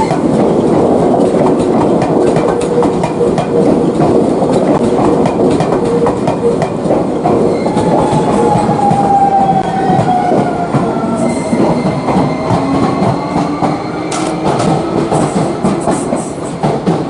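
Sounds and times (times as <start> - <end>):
train wheels clattering: 0.0 - 17.0.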